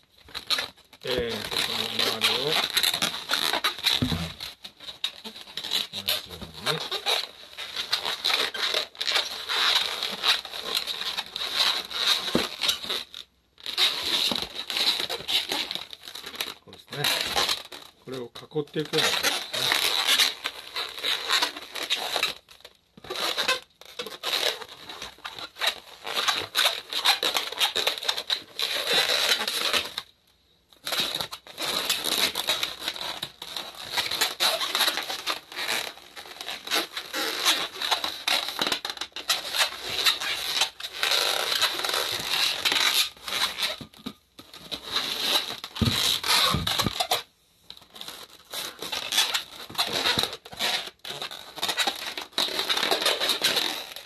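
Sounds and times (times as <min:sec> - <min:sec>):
balloons squeaking and creaking: 0:00.0 - 0:54.0.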